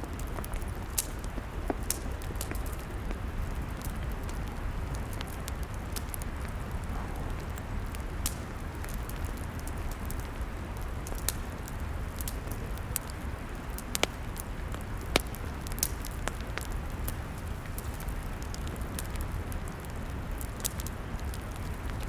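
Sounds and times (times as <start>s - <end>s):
fire crackles and pops: 0.0s - 22.0s
fire low rumble: 0.0s - 22.0s.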